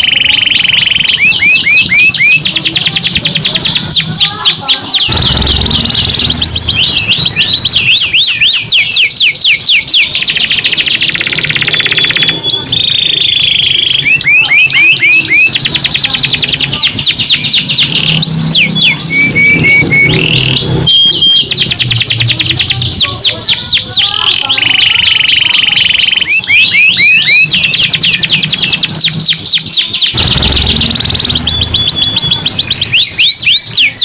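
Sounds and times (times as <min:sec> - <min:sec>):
canary singing: 0:00.0 - 0:34.0.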